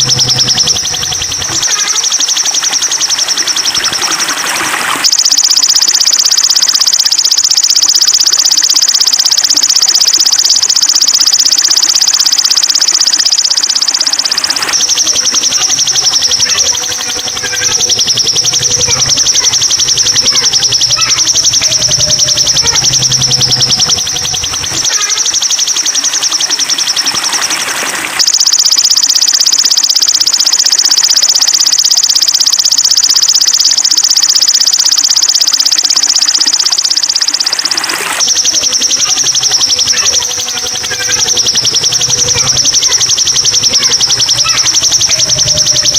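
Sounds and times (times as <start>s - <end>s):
rapid pulsing bird trill: 0.0s - 45.9s.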